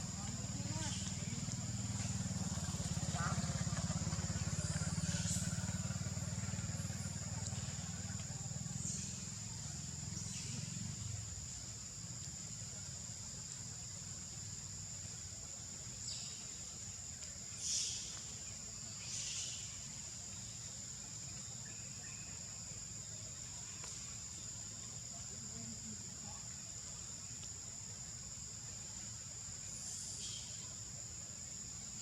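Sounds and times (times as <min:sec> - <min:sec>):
insect chorus drone: 0:00.0 - 0:32.0.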